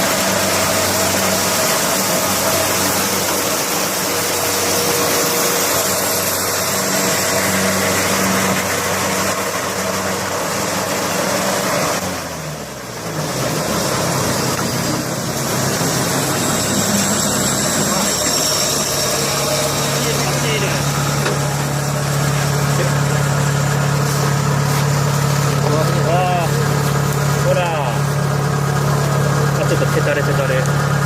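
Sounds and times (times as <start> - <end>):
harvester engine running: 0.0 - 31.0.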